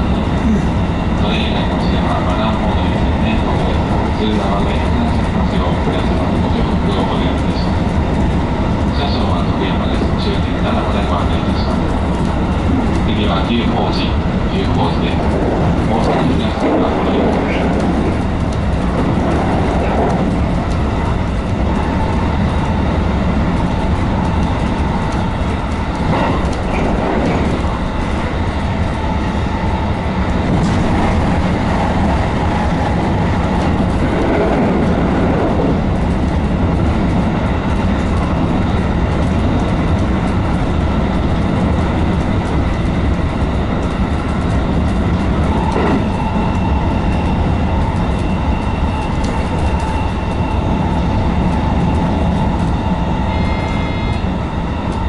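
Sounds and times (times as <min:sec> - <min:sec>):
train wheels rumbling on rail: 0:00.0 - 0:55.0
clatter over rail joints: 0:01.2 - 0:52.8.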